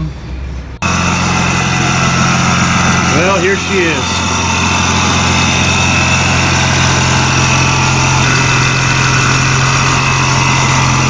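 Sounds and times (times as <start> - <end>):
faint high supercharger whine: 0.0 - 11.0
car engine idling: 0.8 - 11.0.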